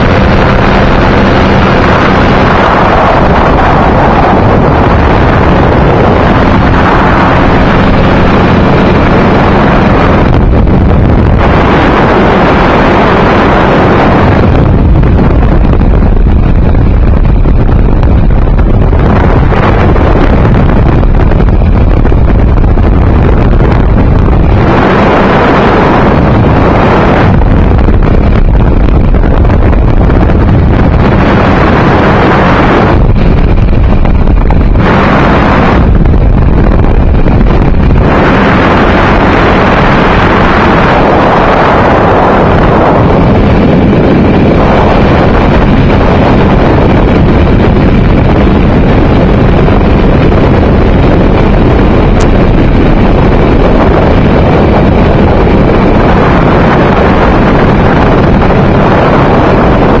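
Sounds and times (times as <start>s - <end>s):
light aircraft engine droning: 0.0s - 60.0s
wind noise on microphone: 0.0s - 60.0s.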